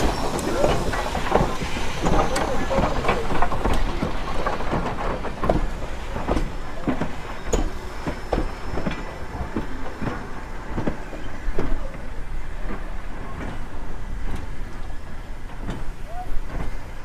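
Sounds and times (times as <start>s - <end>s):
train wheels rumbling: 0.0s - 17.0s
wheels clanking over rail joints: 0.0s - 17.0s.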